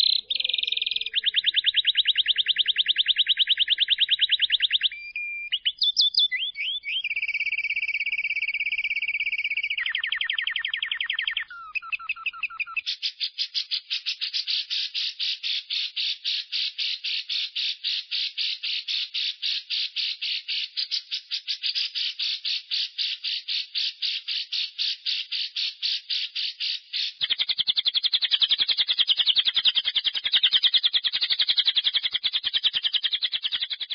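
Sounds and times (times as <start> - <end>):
bird chattering trill: 0.0 - 33.9
short bird calls: 0.0 - 33.9.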